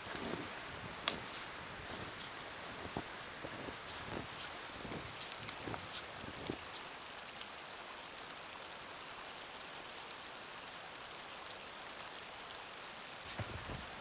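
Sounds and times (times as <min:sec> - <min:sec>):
hiss of wind and snow: 0:00.0 - 0:14.0.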